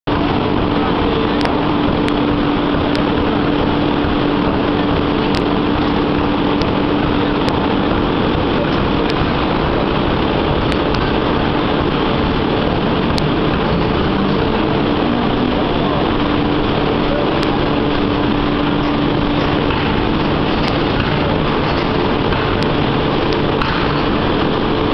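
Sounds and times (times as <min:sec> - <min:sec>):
machinery hum: 0:00.0 - 0:24.9
machinery din: 0:00.1 - 0:24.9.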